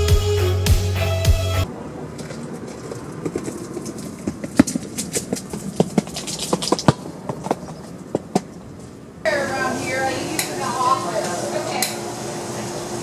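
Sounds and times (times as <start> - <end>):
outdoor background noise: 1.6 - 13.0.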